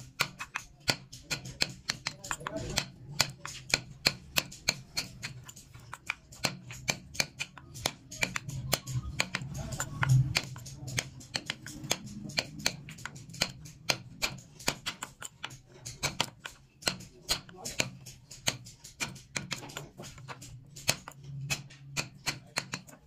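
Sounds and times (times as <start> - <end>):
mallet tapping chisel into wood: 0.0 - 23.0.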